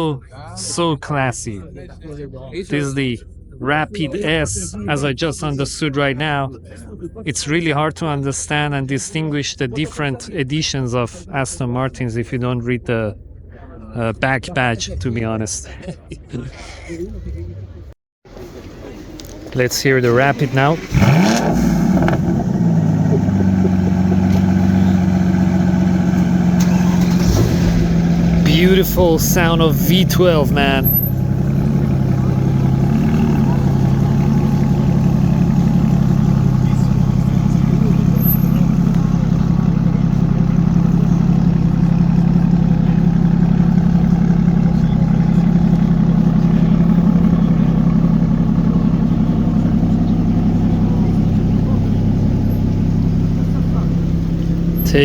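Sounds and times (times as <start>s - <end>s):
car engine idling: 0.3s - 14.9s, 18.3s - 55.0s.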